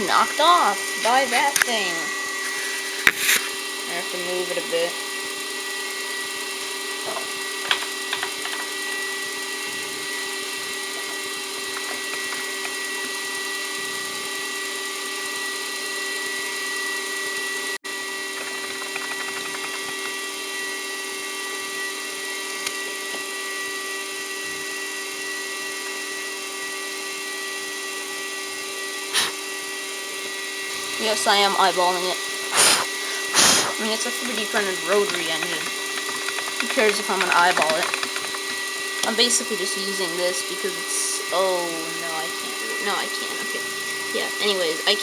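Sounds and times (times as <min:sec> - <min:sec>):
end mill cutting aluminium: 0:00.0 - 0:23.6, 0:28.8 - 0:45.0.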